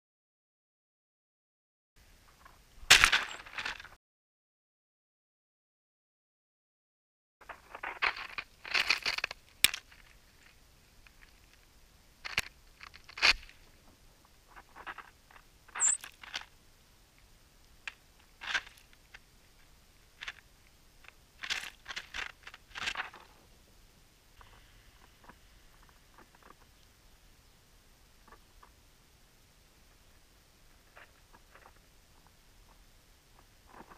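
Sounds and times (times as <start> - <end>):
birds pecking seeds in snow: 2.0 - 4.0, 7.4 - 33.9.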